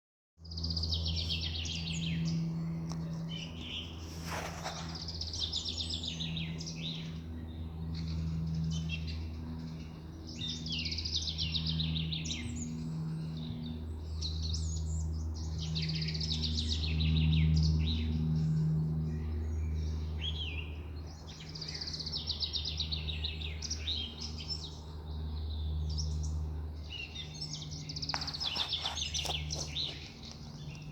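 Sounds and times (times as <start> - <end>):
songbirds singing: 0.4 - 30.9.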